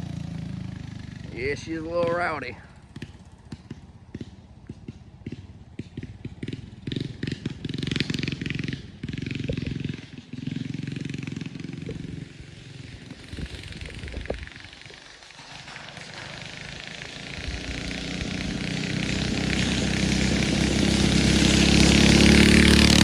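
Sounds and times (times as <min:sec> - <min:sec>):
minibike engine revving: 0:00.0 - 0:23.0.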